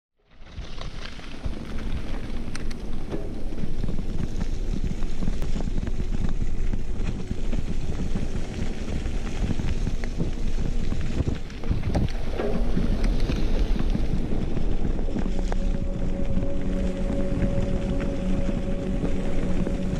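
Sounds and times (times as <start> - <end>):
bike tyres rolling on gravel: 0.2 - 19.9
bike clicks and rattles: 0.3 - 18.6
wind buffeting microphone: 0.4 - 19.9.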